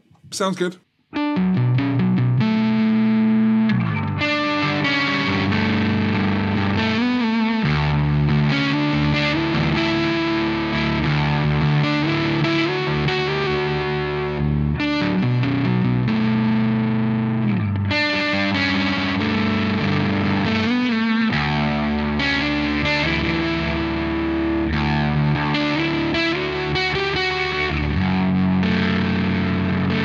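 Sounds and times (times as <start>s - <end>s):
overdriven electric guitar: 1.1s - 30.0s.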